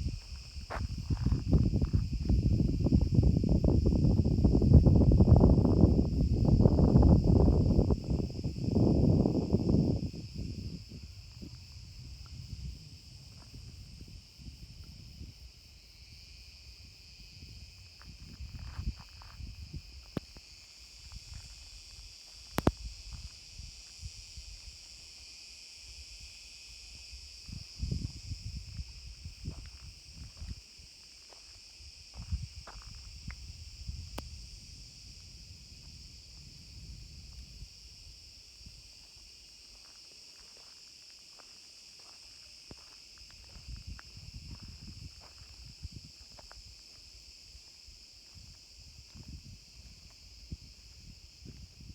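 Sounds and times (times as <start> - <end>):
insect chorus: 0.0 - 51.9.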